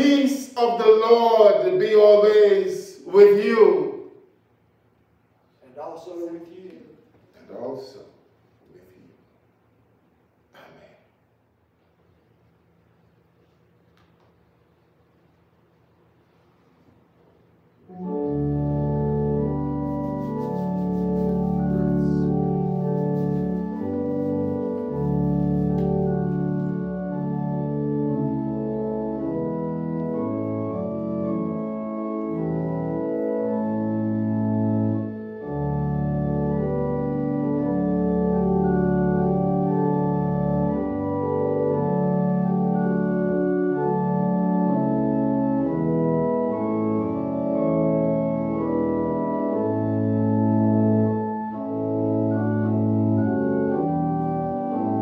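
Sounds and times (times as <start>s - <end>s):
organ playing slow chords: 0.0s - 4.5s, 14.8s - 55.0s.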